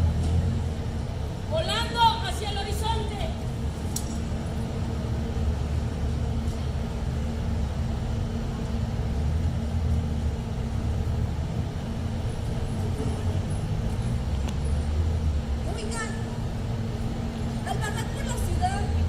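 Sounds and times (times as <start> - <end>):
faint constant hum: 0.0 - 19.0
low rumble of road traffic: 0.0 - 19.0.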